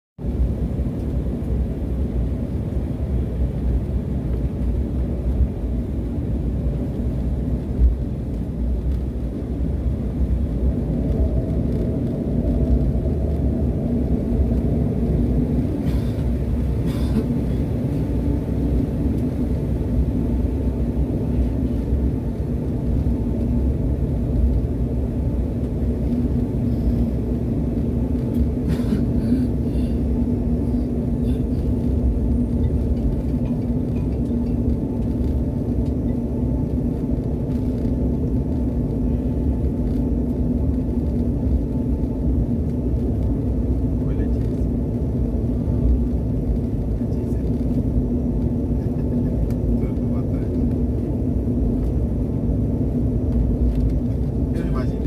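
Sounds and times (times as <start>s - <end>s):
airplane taxiing rumble: 0.2s - 55.0s
steady hum: 0.2s - 55.0s.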